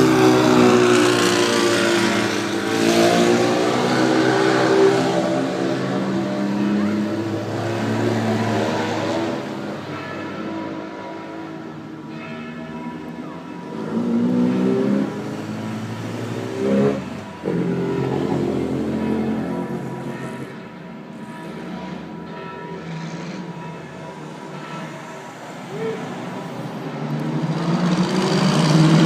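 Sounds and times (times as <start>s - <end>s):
racing car engines revving: 0.0s - 10.0s, 13.6s - 20.6s, 21.5s - 29.0s.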